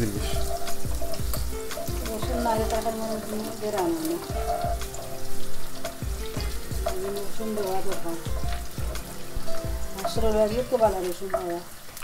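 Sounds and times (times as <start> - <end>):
garlic sizzling in hot oil: 0.0 - 12.0
stirring in a pan: 0.0 - 12.0.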